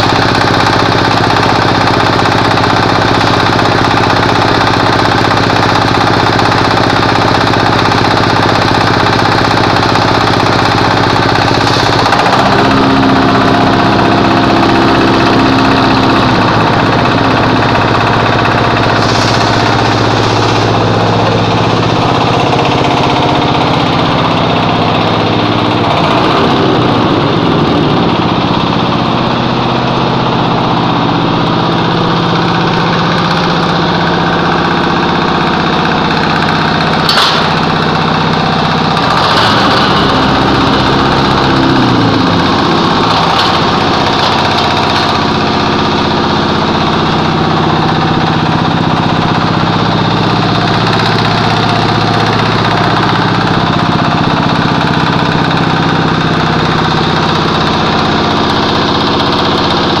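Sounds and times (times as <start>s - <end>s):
diesel generator running: 0.0s - 60.0s
vibrator motor running: 0.0s - 60.0s.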